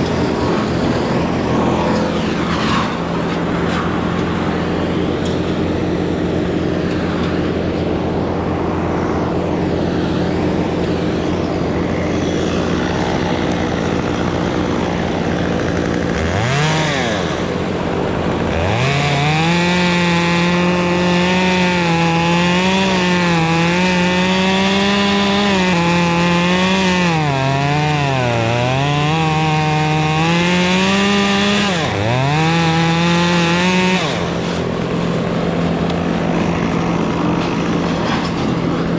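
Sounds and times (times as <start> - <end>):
chainsaw cutting wood: 0.0 - 38.9
chainsaw idling and revving: 0.0 - 38.9.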